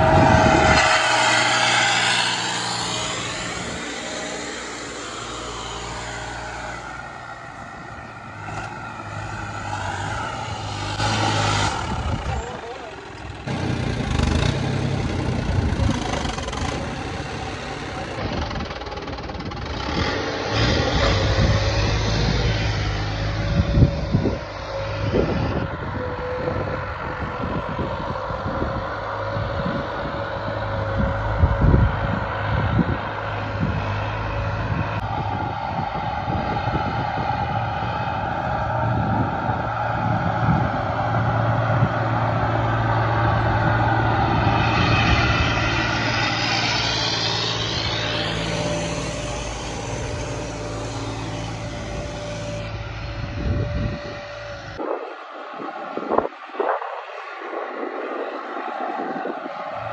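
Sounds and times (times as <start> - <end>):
tractor engine running under load: 0.0 - 26.5, 27.8 - 54.8.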